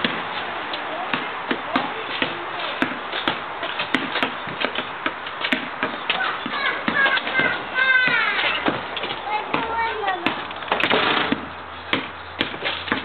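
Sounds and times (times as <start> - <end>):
basketball bouncing on asphalt: 0.0 - 13.0.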